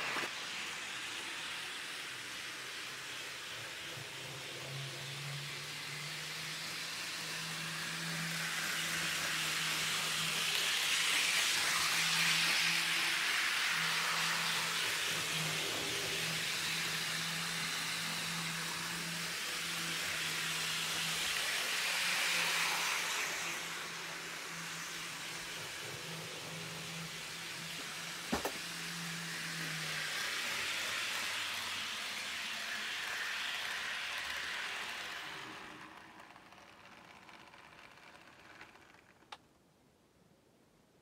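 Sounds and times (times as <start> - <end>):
model train whirring hiss: 0.0 - 39.4.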